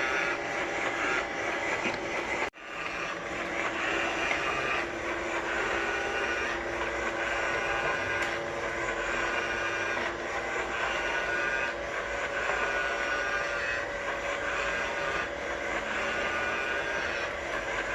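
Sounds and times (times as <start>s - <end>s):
robot vacuum motor whir: 0.0s - 17.9s.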